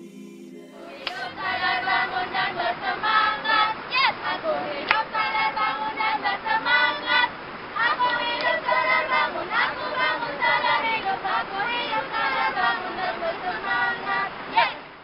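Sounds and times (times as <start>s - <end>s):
young women singing together: 0.0s - 15.0s.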